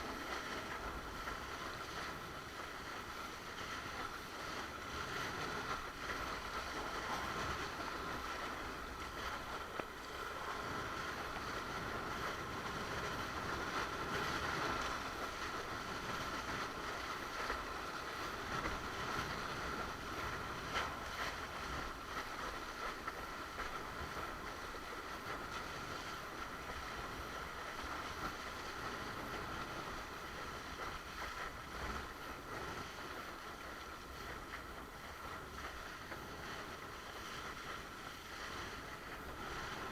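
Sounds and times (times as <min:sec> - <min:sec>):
water rushing: 0:00.0 - 0:39.9
wind: 0:00.0 - 0:39.9.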